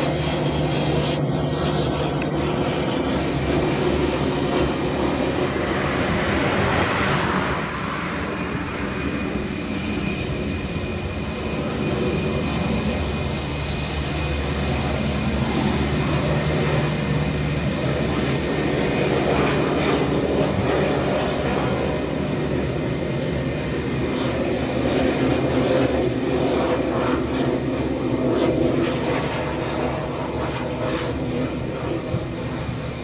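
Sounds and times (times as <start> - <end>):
jet engines taxiing: 0.0 - 33.0.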